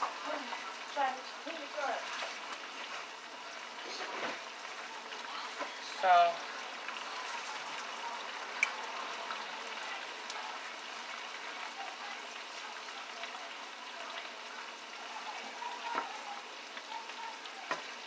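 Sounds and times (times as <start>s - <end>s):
fish frying in a pan: 0.0s - 18.0s.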